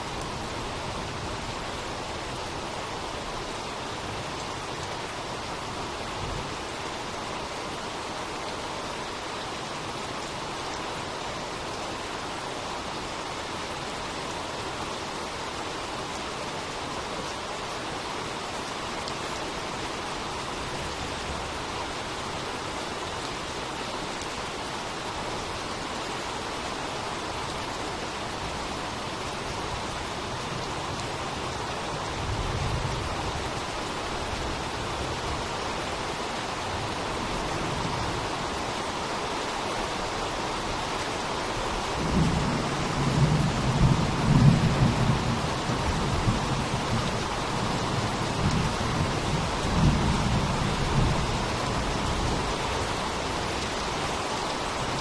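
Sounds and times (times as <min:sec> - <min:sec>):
steady rain pouring: 0:00.0 - 0:55.0.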